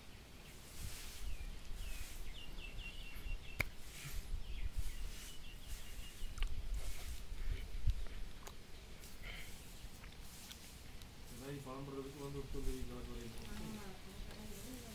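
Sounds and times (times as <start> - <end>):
bird chirping: 0.0 - 14.9.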